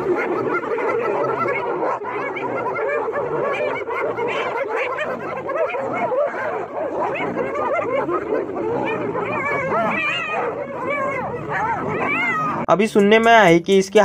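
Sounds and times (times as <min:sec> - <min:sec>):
hyenas giggling: 0:00.0 - 0:12.7.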